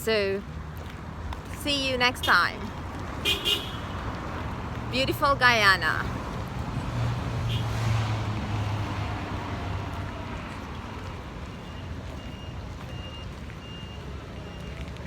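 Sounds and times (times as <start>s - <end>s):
traffic noise: 0.0s - 15.0s
vehicle engine hum: 0.0s - 15.0s.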